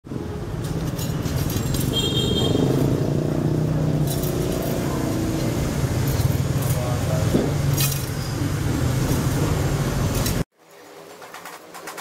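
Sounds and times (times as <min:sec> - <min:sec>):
traffic engines rumbling: 0:00.0 - 0:10.5.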